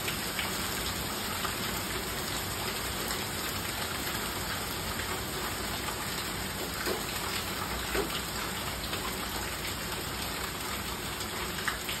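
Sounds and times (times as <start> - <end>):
rain and hail pouring: 0.0 - 12.0.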